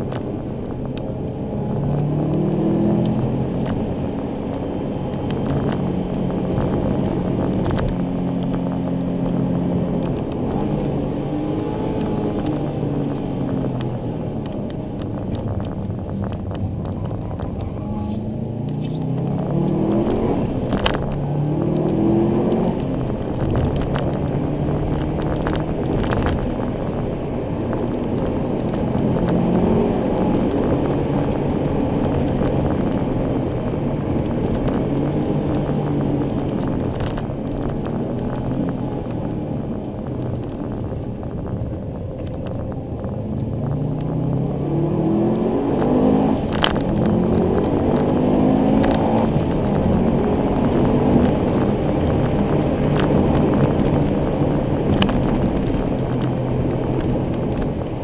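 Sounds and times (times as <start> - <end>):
car engine accelerating: 0.0 - 58.0
tyre and road noise: 0.0 - 58.0.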